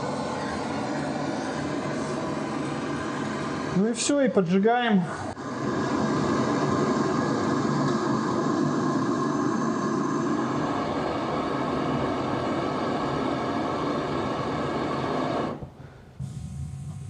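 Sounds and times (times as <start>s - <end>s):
gas torch hissing: 0.0s - 17.0s.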